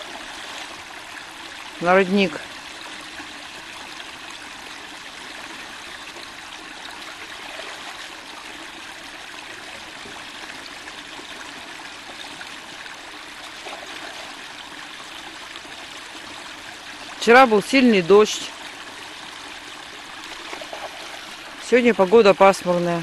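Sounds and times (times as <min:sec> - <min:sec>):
stream flowing: 0:00.0 - 0:23.0.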